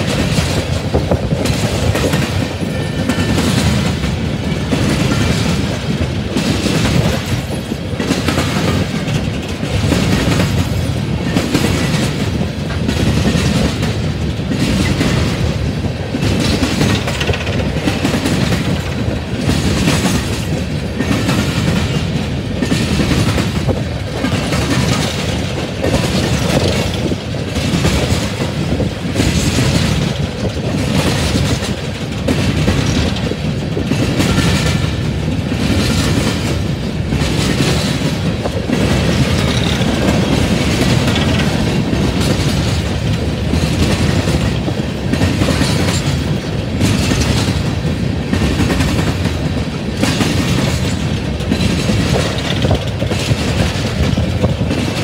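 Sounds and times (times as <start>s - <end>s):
rhythmic clickety-clack: 0.0s - 55.0s
steel wheels rumbling on rail: 0.0s - 55.0s.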